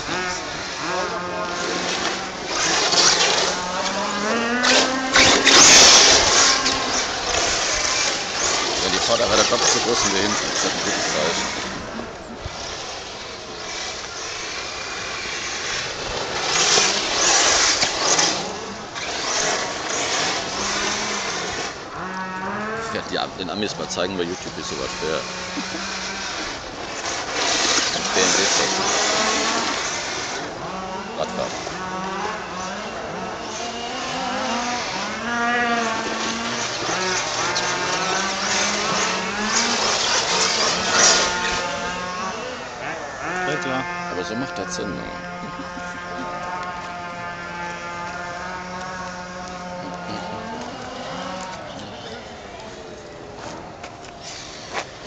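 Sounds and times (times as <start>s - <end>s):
rc car motor whine: 0.0s - 55.0s
tyres on gravel: 0.0s - 55.0s.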